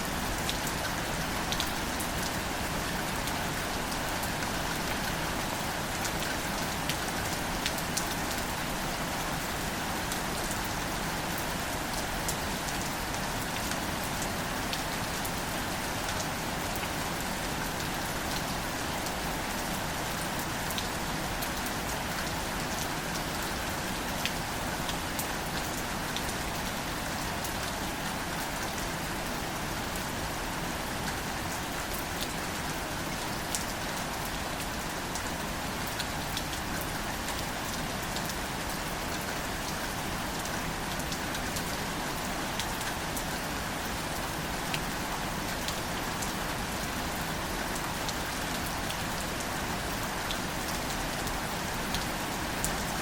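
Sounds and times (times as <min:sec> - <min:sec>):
gentle rain on leaves: 0:00.0 - 0:53.0.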